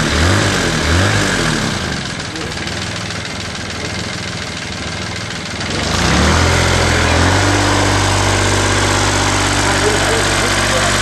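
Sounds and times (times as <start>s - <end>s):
diesel motorcycle engine running: 0.0s - 11.0s.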